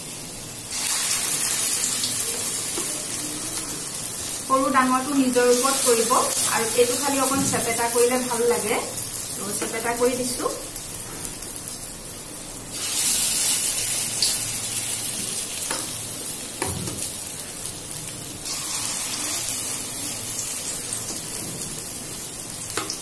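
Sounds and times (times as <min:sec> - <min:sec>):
batter sizzling in hot oil: 0:00.0 - 0:23.0.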